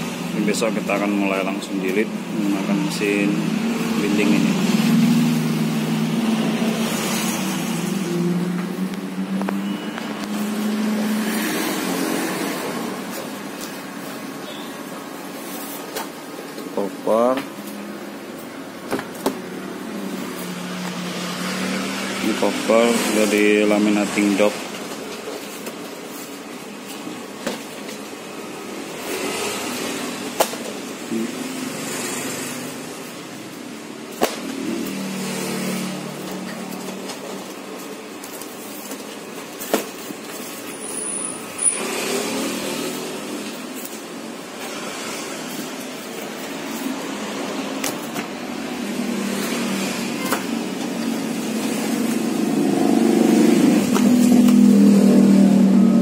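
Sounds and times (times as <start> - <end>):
mechanical hum: 0.0 - 56.0.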